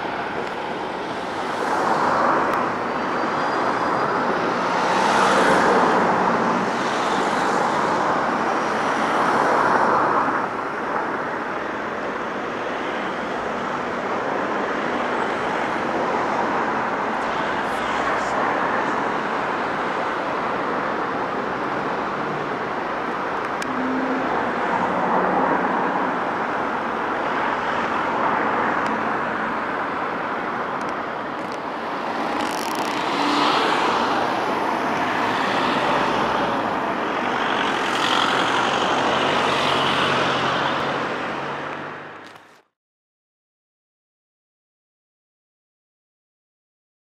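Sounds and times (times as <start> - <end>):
road traffic passing: 0.0 - 42.6.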